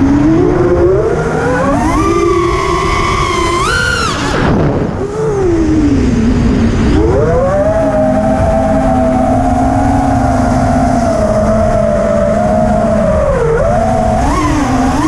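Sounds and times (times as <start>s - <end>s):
drone motors whining: 0.0s - 15.0s
wind rush: 0.0s - 15.0s.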